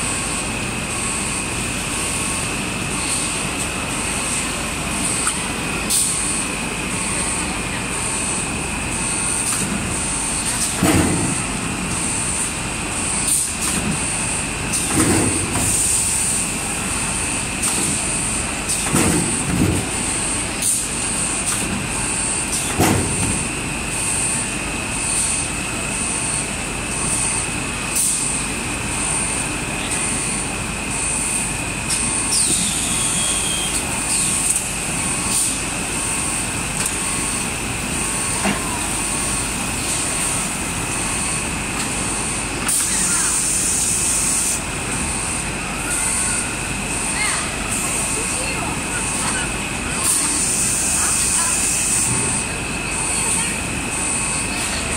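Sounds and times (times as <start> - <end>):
high machine whine: 0.0 - 54.9.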